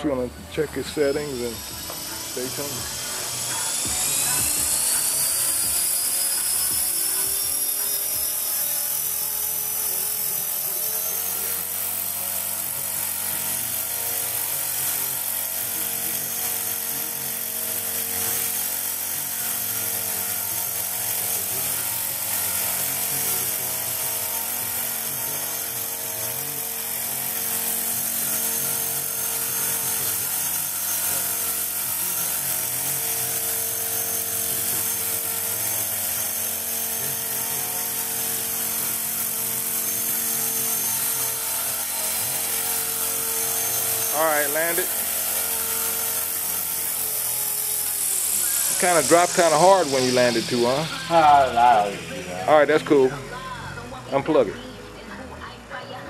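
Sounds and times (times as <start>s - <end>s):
rc helicopter motor and rotor whine: 0.0s - 56.0s.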